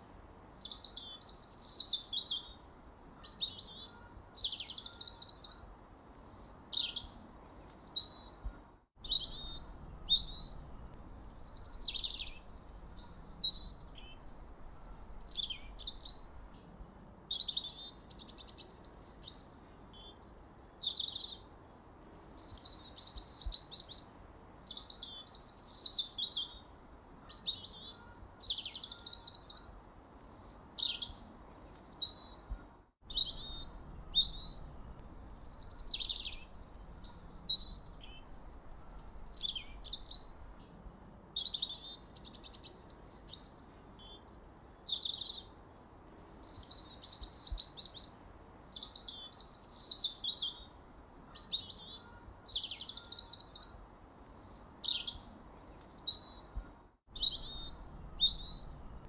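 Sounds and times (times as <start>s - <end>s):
songbirds chirping and trilling: 0.0s - 59.0s
faint steady hiss: 5.6s - 28.7s, 29.3s - 52.8s, 53.5s - 59.0s.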